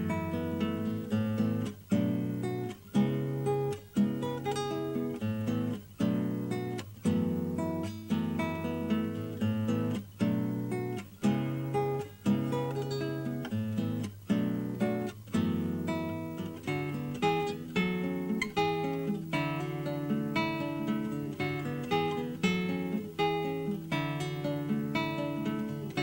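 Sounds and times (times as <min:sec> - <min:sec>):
acoustic guitar: 0:00.0 - 0:26.0.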